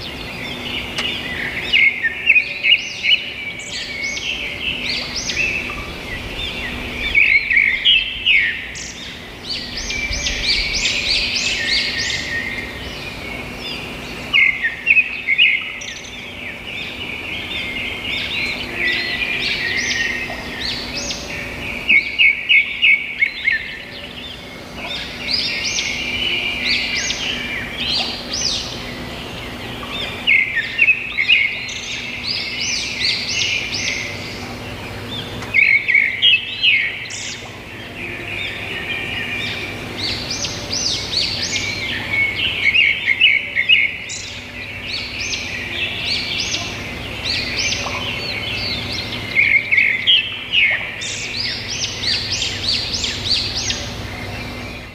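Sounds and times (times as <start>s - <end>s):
songbirds chirping and twittering: 0.0s - 54.9s.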